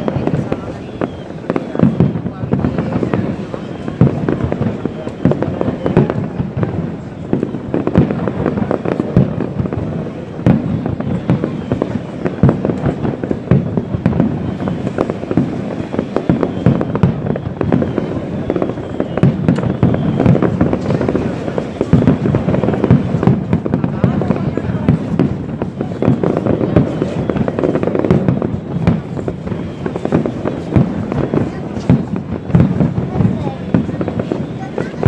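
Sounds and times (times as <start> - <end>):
fireworks bursting: 0.0 - 35.0.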